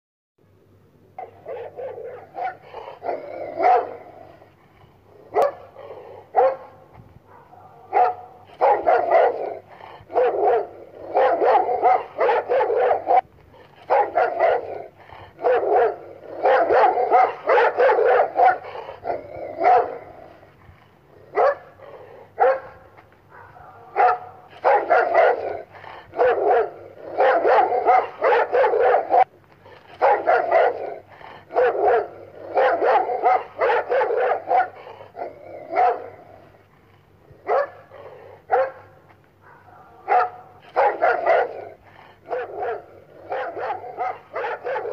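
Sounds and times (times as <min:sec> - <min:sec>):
dog barking aggressively: 0:01.2 - 0:44.9.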